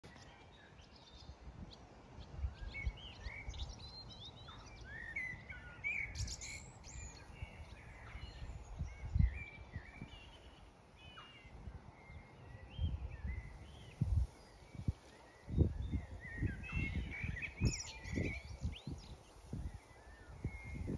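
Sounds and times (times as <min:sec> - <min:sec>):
birds singing: 0:00.0 - 0:20.9
wind buffeting microphone: 0:00.5 - 0:10.6, 0:11.4 - 0:20.9.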